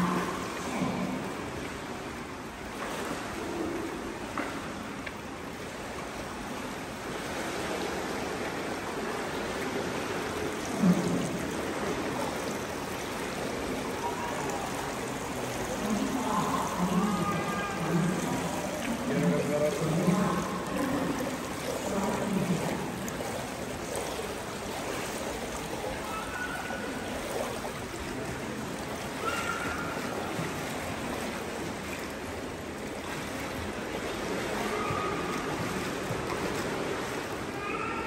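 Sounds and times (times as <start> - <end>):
pool water lapping: 0.0 - 38.0.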